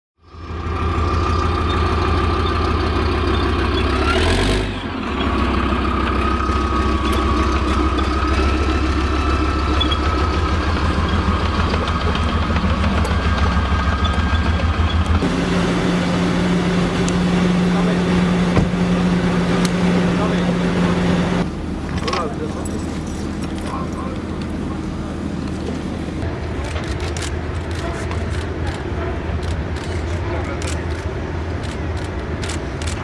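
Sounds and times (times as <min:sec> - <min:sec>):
large vehicle engine running: 0:00.2 - 0:33.0.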